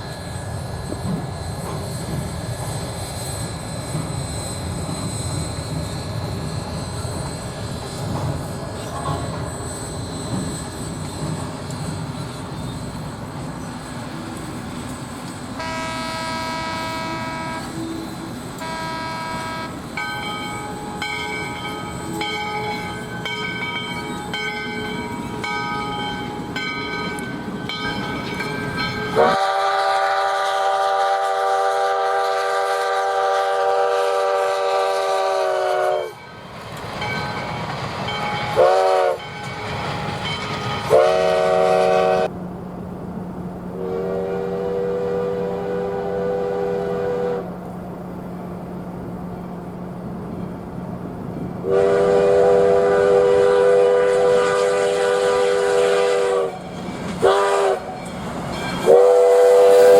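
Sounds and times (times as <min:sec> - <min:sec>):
moving train rumble: 0:00.0 - 0:59.9
steam locomotive chime whistle: 0:03.2 - 0:36.4, 0:37.0 - 0:42.3, 0:43.7 - 0:47.5, 0:51.6 - 0:59.9.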